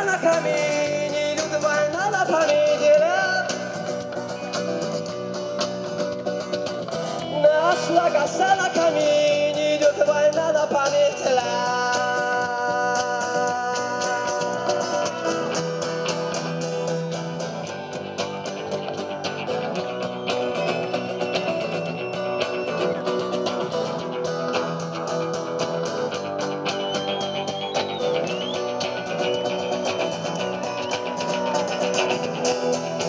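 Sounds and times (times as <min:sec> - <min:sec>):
lead guitar: 0:00.0 - 0:33.0
live rock band playing: 0:00.0 - 0:33.0.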